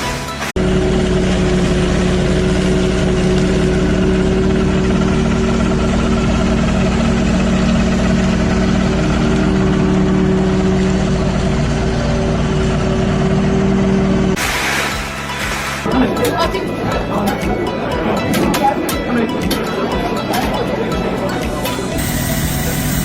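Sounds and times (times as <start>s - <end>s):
engine running with low hum: 0.0s - 23.0s.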